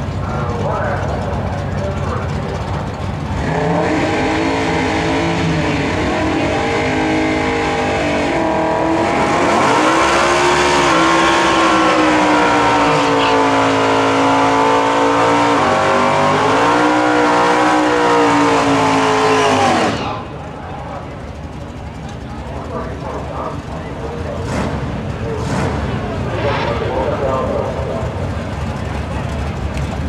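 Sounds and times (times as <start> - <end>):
racing engines at full throttle: 0.0 - 30.0.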